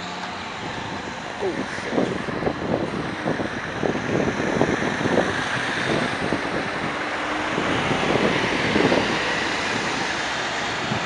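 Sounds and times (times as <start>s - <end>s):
road traffic rushing: 0.0s - 11.0s
wind buffeting microphone: 0.3s - 11.0s.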